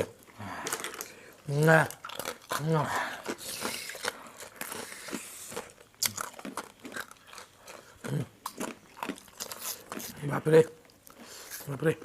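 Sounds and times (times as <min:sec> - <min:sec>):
crunchy chewing: 0:00.0 - 0:11.8
crinkling: 0:00.0 - 0:11.9.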